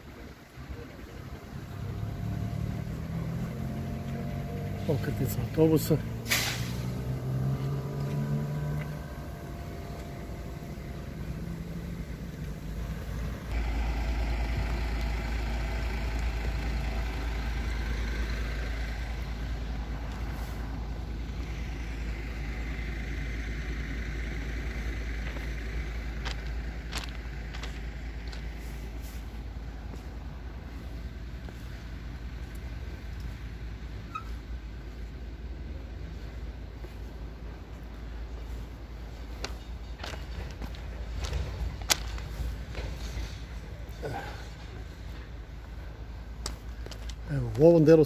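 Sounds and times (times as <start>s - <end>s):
bus engine running: 0.0s - 48.0s.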